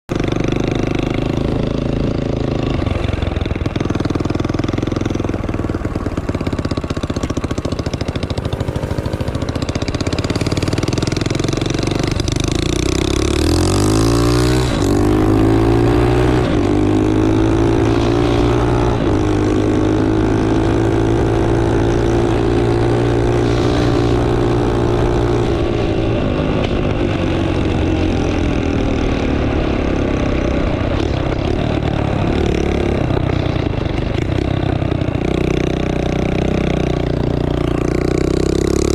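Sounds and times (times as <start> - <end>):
engine running and revving: 0.1 - 38.9.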